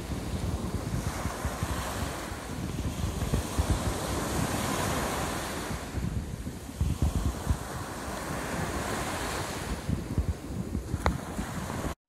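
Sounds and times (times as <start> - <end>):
waves lapping on rocky shore: 0.0 - 12.0
wind buffeting microphone: 0.0 - 12.0.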